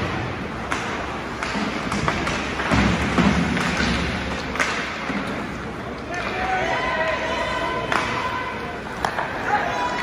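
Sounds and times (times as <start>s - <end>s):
arena noise: 0.0s - 10.0s
hockey sticks and puck clacking: 0.0s - 10.0s.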